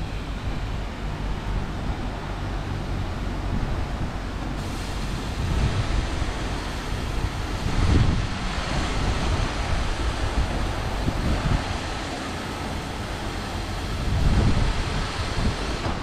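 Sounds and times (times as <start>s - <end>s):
car wash machine rumble: 0.0s - 16.0s
car wash spray hissing: 0.0s - 16.0s.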